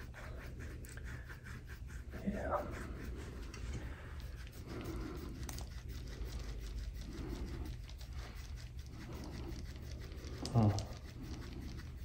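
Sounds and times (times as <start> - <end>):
low room hum: 0.0 - 12.0
scraping tool on skin: 0.0 - 12.0.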